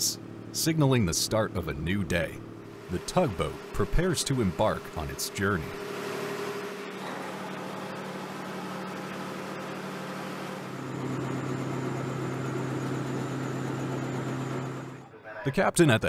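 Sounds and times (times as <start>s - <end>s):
diesel engine humming: 0.0s - 15.1s.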